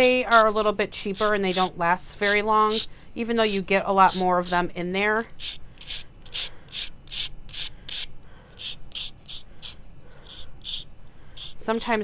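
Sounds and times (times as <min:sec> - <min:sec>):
nail file rasping: 0:00.0 - 0:12.0.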